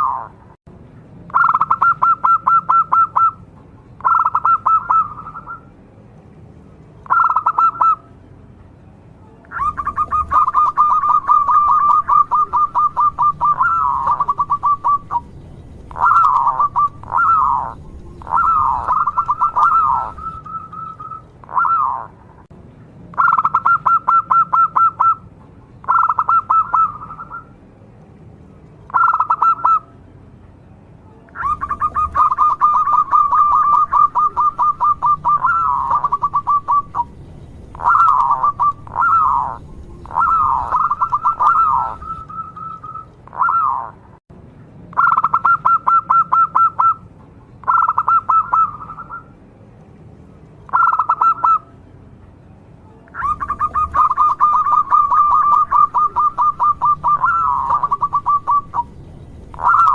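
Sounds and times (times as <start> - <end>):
dove calling trilled coos: 0.0 - 0.4, 1.3 - 5.7, 7.0 - 8.1, 9.4 - 22.2, 23.1 - 27.6, 28.9 - 29.9, 31.3 - 44.0, 44.9 - 47.0, 47.6 - 49.3, 50.7 - 51.7, 53.1 - 59.9.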